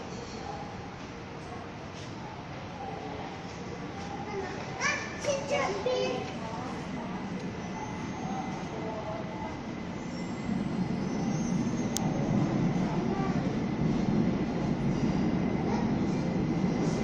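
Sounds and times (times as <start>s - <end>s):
metro train rumble: 0.0s - 17.0s.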